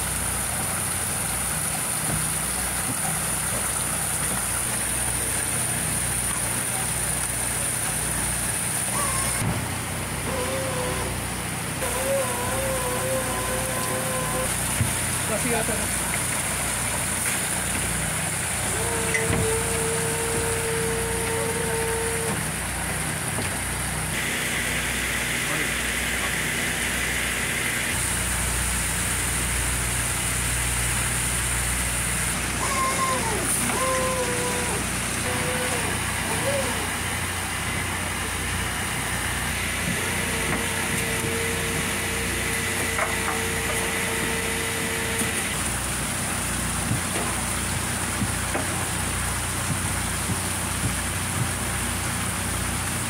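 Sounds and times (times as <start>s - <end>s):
machinery droning: 2.1s - 53.0s.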